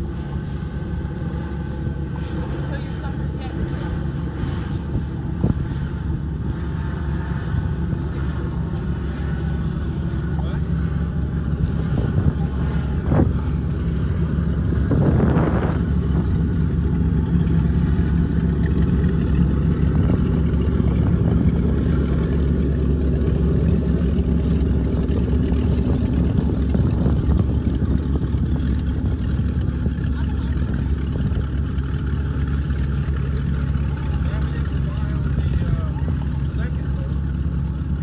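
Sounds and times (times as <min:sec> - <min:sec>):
engine humming: 0:00.0 - 0:38.0.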